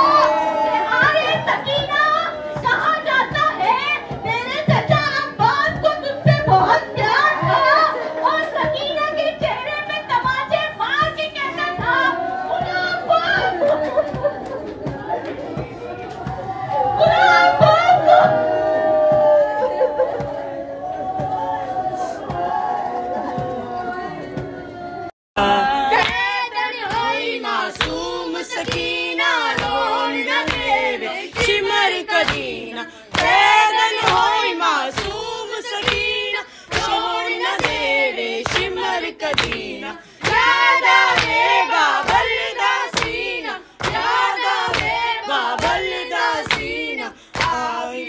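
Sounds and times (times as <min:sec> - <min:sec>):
rhythmic chest-beating strikes: 0:00.0 - 0:24.7, 0:25.4 - 0:48.0
group singing along: 0:00.0 - 0:48.0.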